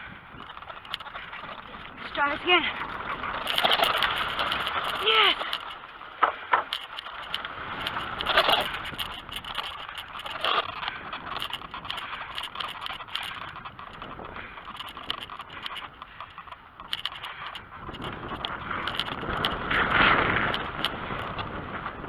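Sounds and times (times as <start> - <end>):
bicycle tyres rolling: 0.0 - 22.0
bike rattling and clicking: 0.0 - 22.0.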